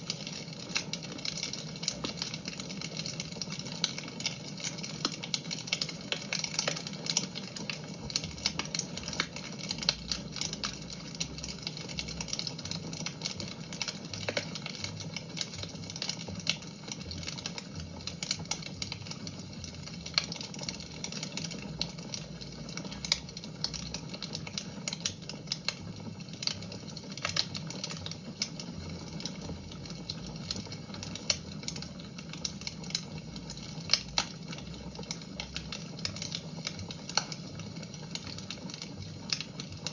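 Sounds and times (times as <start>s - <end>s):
fire crackling in fireplace: 0.0s - 39.9s.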